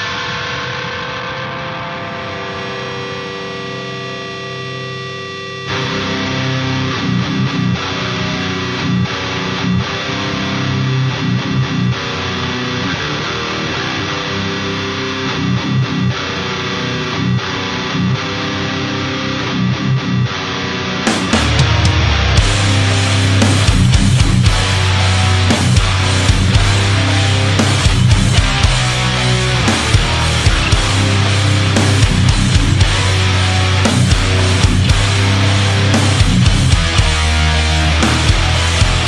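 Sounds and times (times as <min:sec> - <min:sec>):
electric guitar riff: 0:00.0 - 0:39.0.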